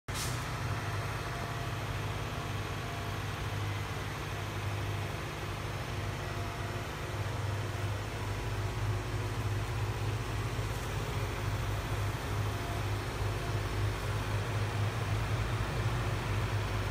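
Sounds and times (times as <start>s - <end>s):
low mechanical hum: 0.1s - 16.9s.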